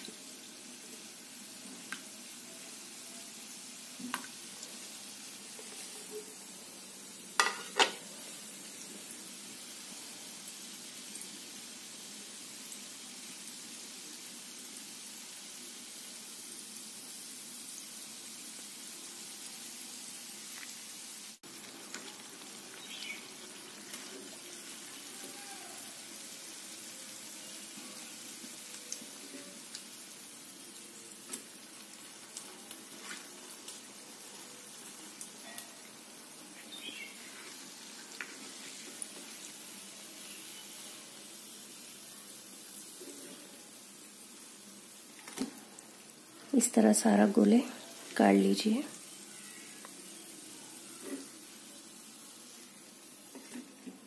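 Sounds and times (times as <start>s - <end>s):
oil sizzling: 0.0s - 54.0s.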